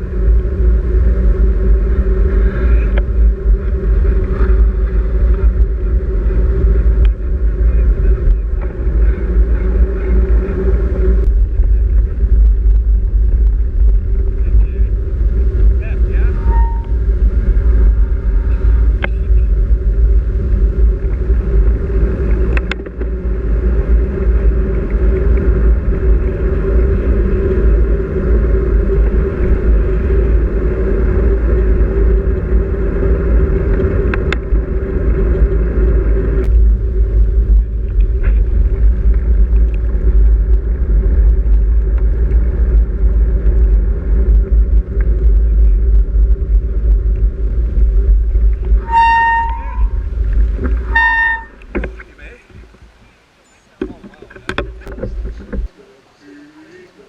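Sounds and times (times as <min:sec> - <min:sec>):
wind buffeting microphone: 0:00.0 - 0:55.8
road rumble: 0:00.0 - 0:57.0.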